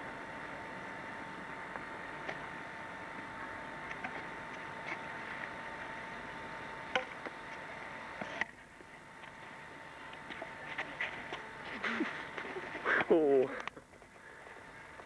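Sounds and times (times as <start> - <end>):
camcorder hiss and hum: 0.0 - 15.0
thin constant whine: 0.0 - 15.0.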